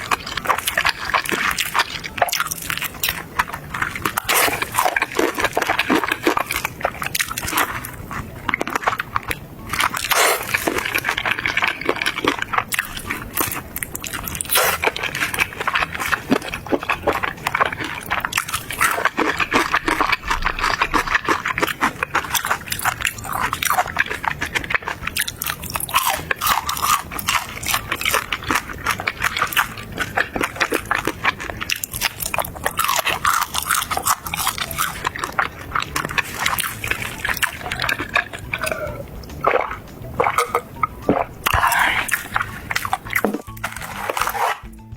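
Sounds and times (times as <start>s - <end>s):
person chewing and crunching: 0.0s - 44.9s.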